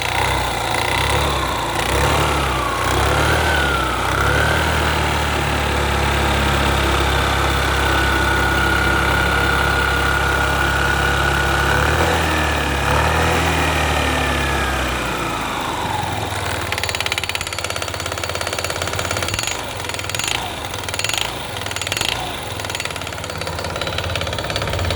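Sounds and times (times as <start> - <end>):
engine knocking: 0.0 - 24.9
scooter engine running: 0.0 - 24.9.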